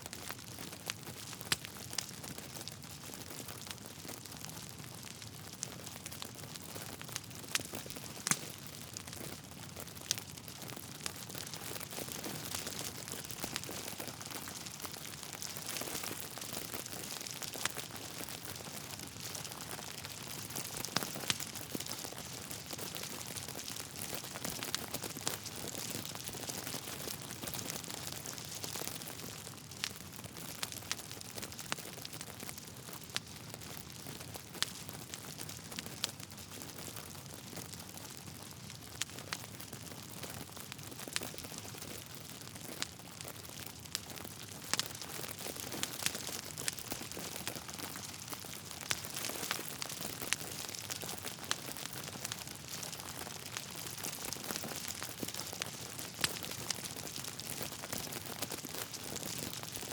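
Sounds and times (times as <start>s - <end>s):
wood fire crackling: 0.0s - 59.9s
burning logs popping and snapping: 0.2s - 59.9s.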